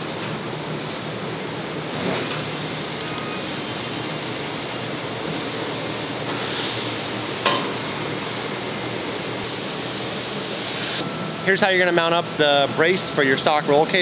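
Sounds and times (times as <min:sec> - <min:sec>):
shop background hiss: 0:00.0 - 0:14.0.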